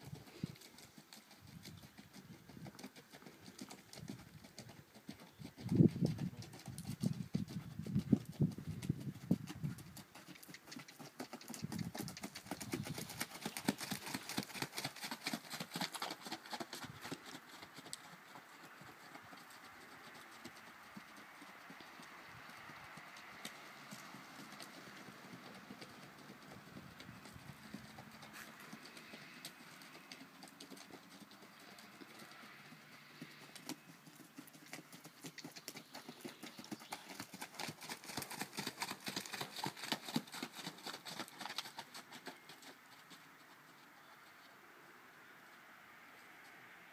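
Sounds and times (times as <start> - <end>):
horse hoofbeats on dirt: 0.0 - 44.4.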